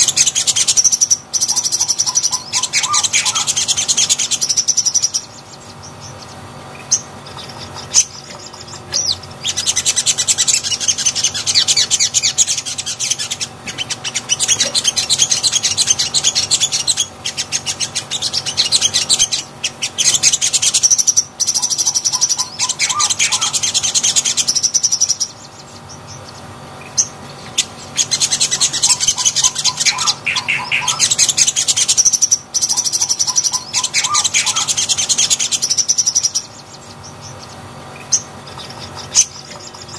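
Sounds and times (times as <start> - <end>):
sunbird twittering: 0.0 - 39.9.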